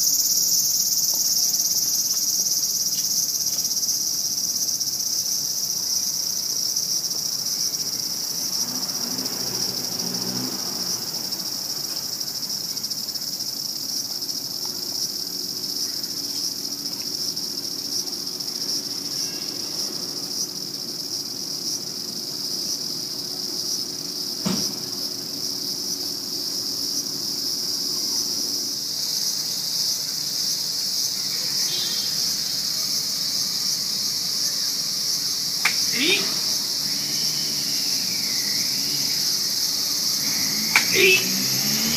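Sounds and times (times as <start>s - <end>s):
insects buzzing: 0.0s - 41.9s.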